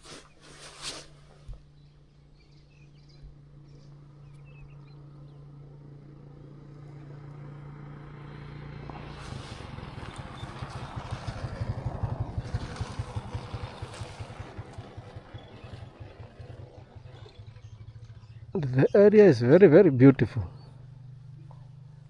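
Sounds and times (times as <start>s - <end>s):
motor vehicle passing by: 0.0s - 22.0s.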